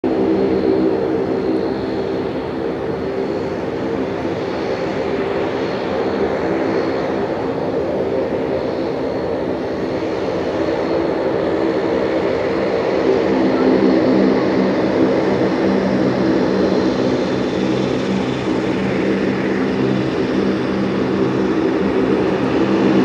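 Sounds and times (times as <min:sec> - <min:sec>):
jet airliner drone with whine: 0:00.0 - 0:23.0.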